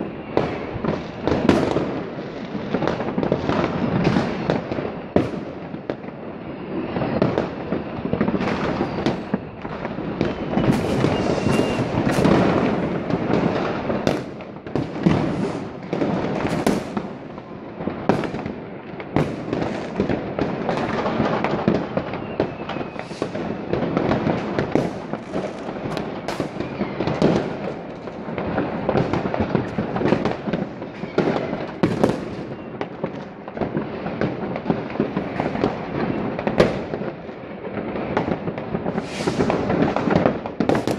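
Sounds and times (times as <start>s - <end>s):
firework whistle: 0.0s - 33.3s, 34.1s - 37.0s, 38.1s - 40.9s
distant fireworks booms: 0.0s - 40.9s
firecracker bangs: 0.0s - 40.9s
fireworks crackling: 0.0s - 40.9s.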